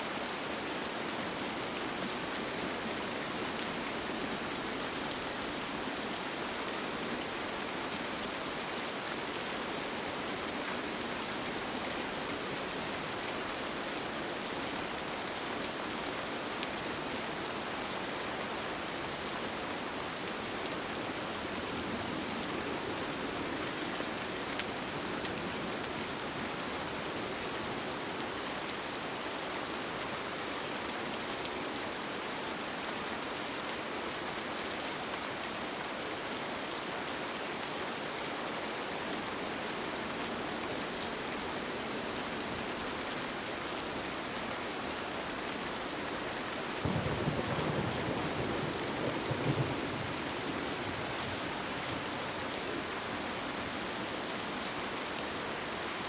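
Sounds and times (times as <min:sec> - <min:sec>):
rain pattering on a tent: 0:00.0 - 0:56.0.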